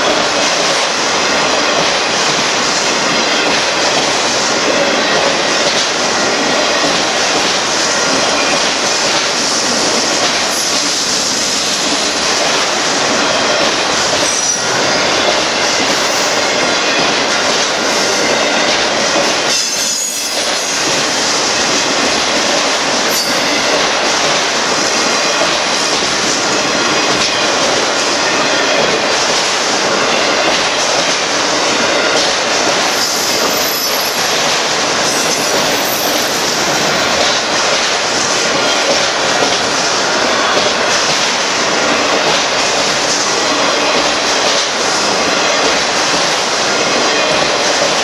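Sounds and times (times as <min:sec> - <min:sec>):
steel wheels on rails: 0:00.0 - 0:48.0.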